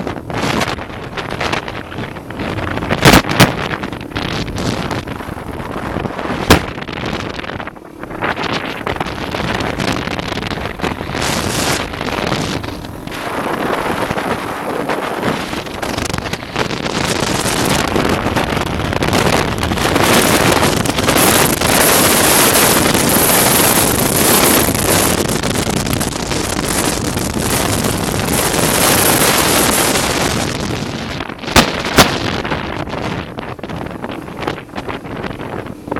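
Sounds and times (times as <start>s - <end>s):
wind buffeting microphone: 0.0s - 35.9s
motocross bike engine running: 0.8s - 32.9s.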